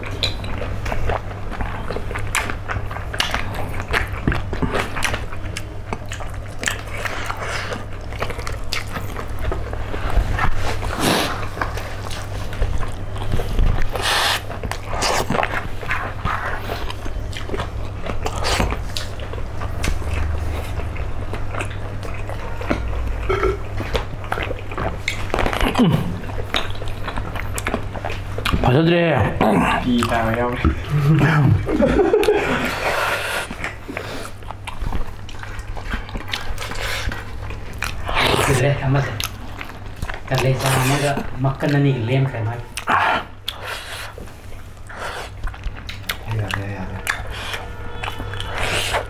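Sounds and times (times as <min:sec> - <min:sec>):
chewing and smacking mouth sounds: 0:00.0 - 0:49.0
steady low hum: 0:00.0 - 0:49.0.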